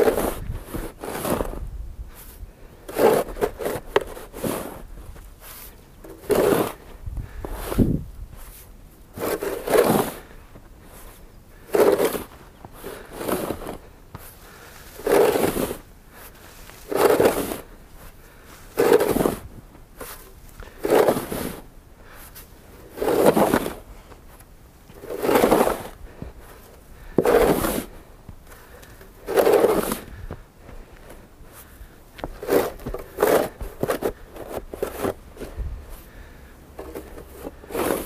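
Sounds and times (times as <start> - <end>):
snow shovel scraping snow: 0.0 - 38.0.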